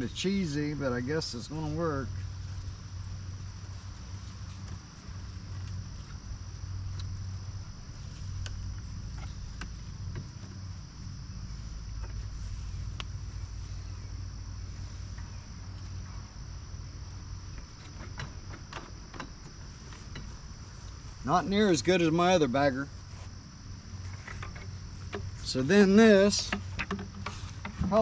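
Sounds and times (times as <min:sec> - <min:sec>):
high insect drone: 0:00.0 - 0:28.0
low steady hum: 0:00.0 - 0:28.0.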